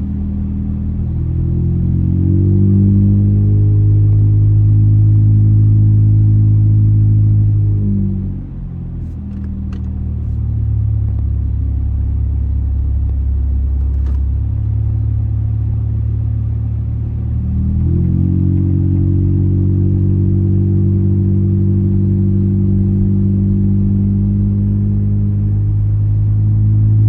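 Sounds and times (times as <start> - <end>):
car exhaust droning: 0.0 - 27.0.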